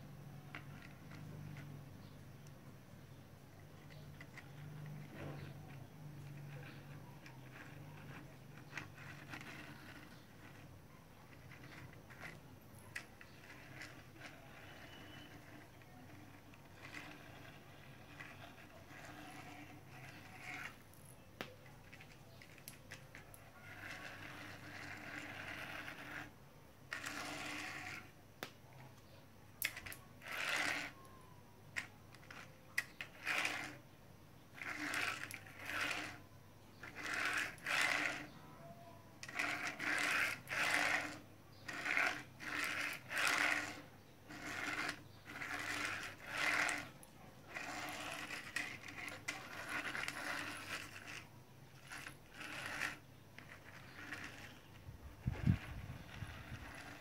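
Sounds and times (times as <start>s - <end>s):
toy tricycle clicking and rattling: 3.8s - 26.3s, 29.6s - 33.8s, 34.5s - 36.2s, 36.8s - 38.5s, 39.2s - 57.0s.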